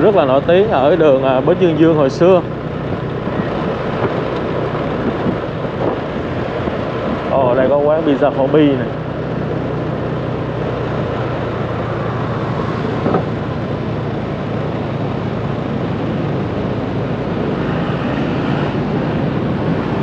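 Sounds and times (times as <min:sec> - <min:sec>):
city traffic and road noise: 0:00.0 - 0:20.0
engine rumble: 0:00.0 - 0:20.0.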